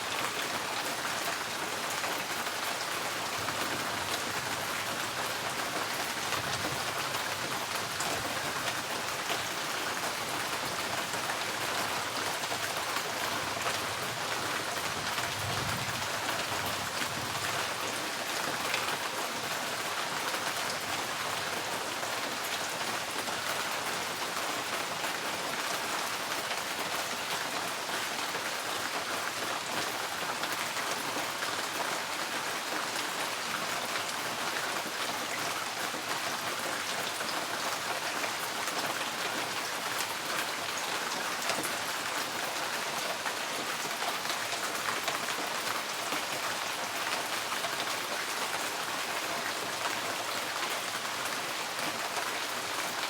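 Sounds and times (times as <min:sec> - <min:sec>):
rain on a tin roof: 0:00.0 - 0:53.0.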